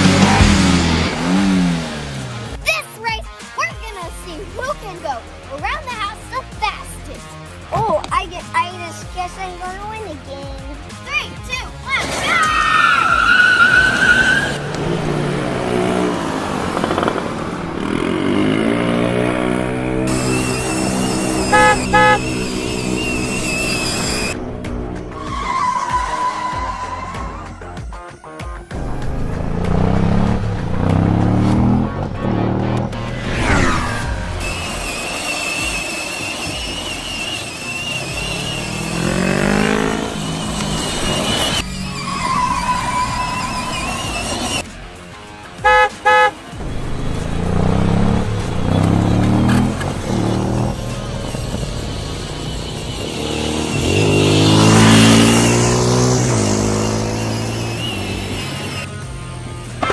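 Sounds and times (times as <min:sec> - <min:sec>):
vehicle engine revving: 0:00.0 - 0:02.6, 0:10.8 - 0:27.6, 0:28.7 - 0:59.9.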